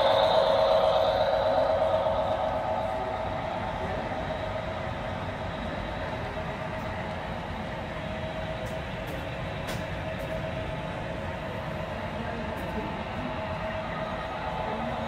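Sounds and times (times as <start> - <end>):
model trains humming and rumbling: 0.0 - 15.0.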